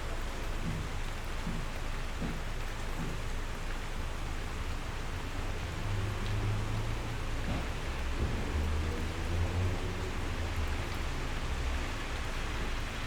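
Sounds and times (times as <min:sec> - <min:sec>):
rain on a window: 0:00.0 - 0:13.0.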